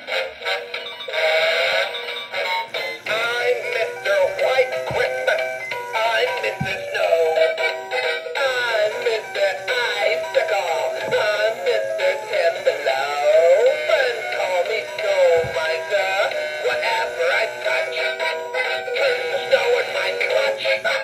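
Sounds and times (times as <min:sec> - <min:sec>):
christmas-style backing track: 0:00.0 - 0:21.0
man singing through small speaker: 0:00.0 - 0:21.0.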